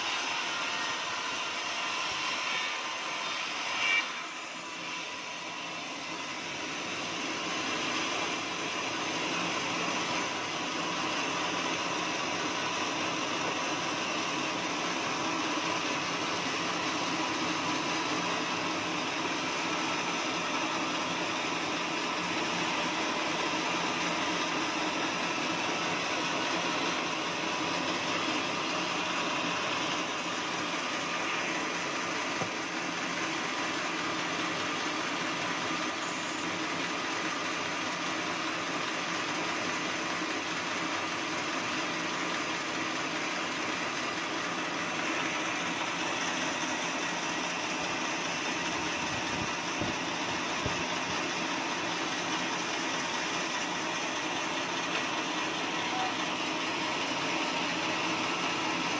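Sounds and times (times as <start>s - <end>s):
band sawmill running: 0.0s - 58.9s.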